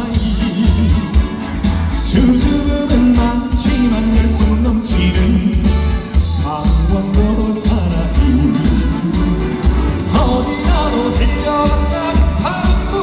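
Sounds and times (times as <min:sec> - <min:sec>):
backing track with bass beat: 0:00.0 - 0:13.0
man singing live: 0:00.0 - 0:13.0.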